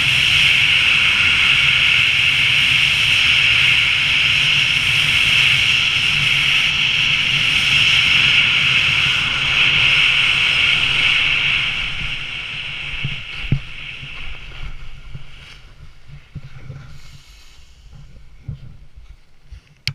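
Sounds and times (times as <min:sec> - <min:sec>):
air rushing over microphone: 0:00.0 - 0:19.9.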